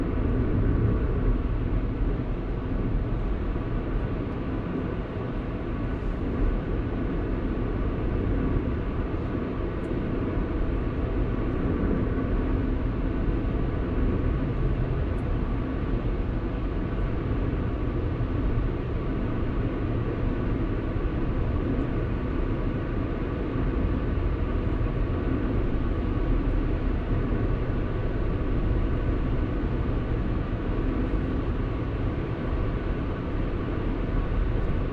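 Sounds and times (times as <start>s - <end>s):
car engine and tyre noise: 0.0s - 34.9s.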